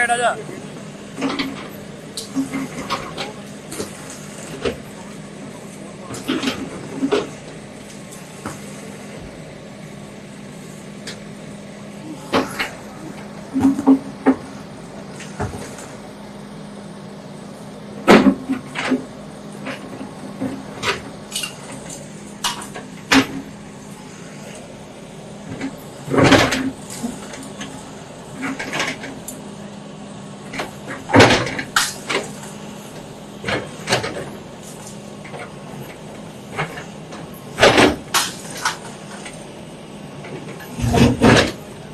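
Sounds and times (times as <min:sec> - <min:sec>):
bulldozer engine running: 0:00.0 - 0:41.9.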